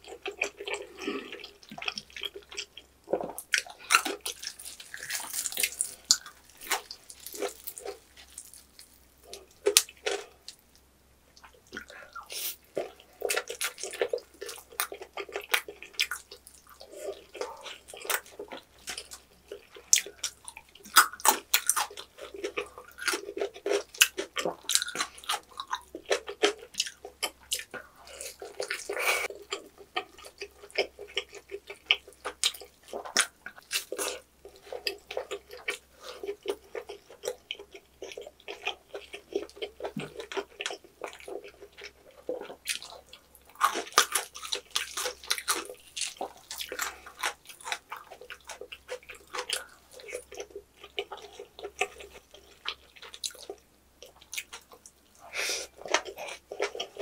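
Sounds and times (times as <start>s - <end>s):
wet chewing mouth sounds: 11.4s - 57.0s.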